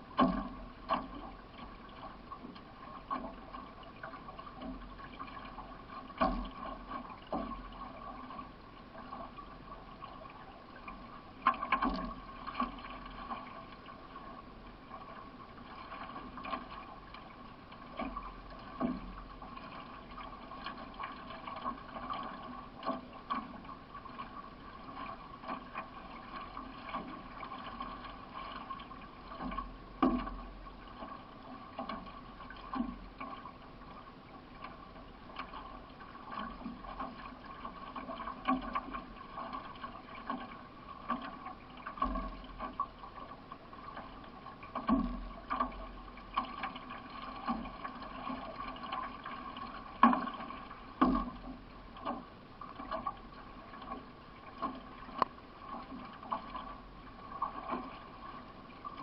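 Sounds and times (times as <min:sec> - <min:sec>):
paddle splashing water: 0:00.0 - 0:59.0
rush of water: 0:00.0 - 0:59.0.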